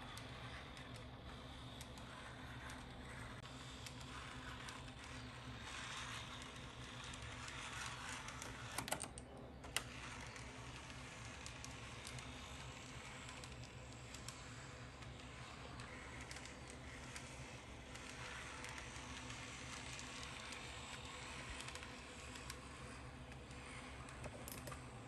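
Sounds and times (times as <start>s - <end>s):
small motor whirring: 0.0s - 25.0s
wheels clicking on rails: 0.0s - 25.0s.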